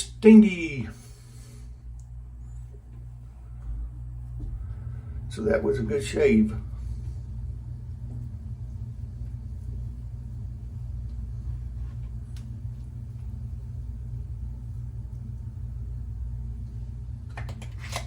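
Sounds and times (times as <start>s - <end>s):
low rumble: 0.0s - 17.4s.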